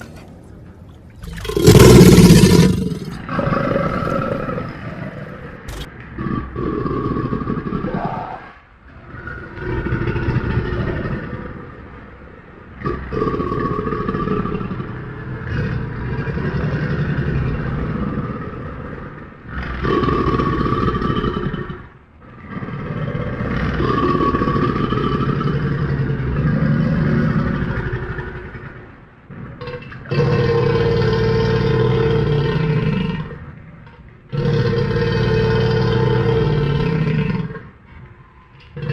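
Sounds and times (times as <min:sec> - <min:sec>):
crocodilian growling and bellowing: 0:00.0 - 0:38.9.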